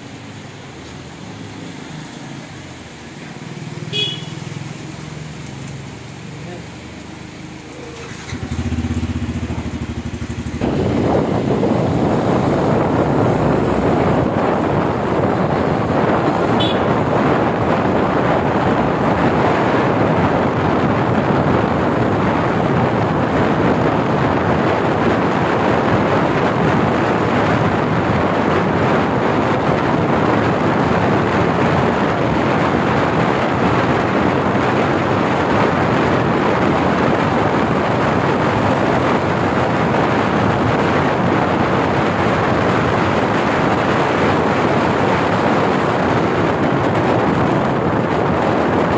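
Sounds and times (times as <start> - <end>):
tyres rushing on wet road: 0.0 - 48.9.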